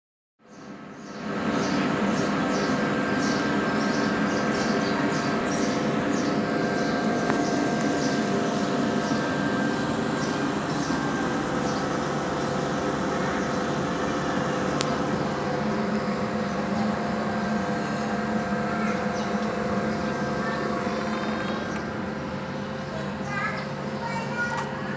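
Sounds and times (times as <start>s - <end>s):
electric fan hum: 0.5s - 24.9s.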